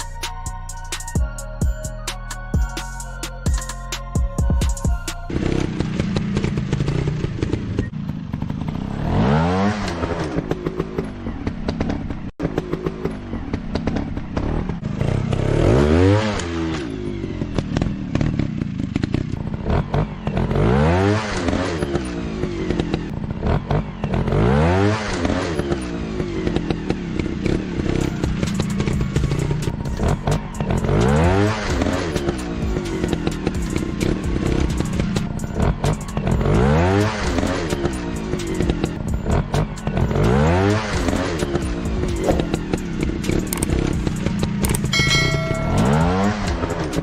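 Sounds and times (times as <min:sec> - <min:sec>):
motorcycle engine revving: 0:04.4 - 0:47.0.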